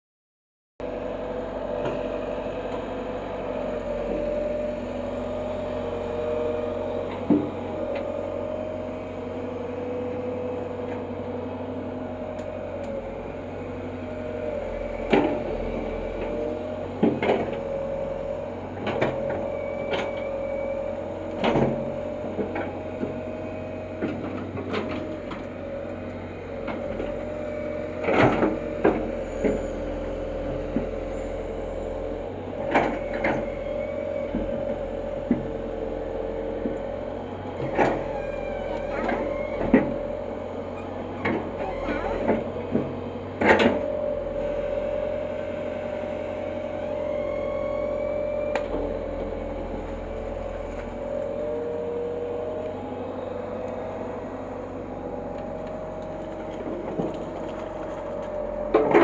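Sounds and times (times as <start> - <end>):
excavator engine humming: 0.8 - 59.0.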